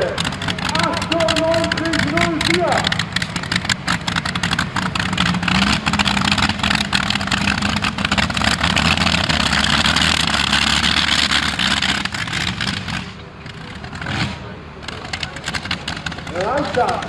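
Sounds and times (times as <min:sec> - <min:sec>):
tractor engines droning under load: 0:00.0 - 0:17.0.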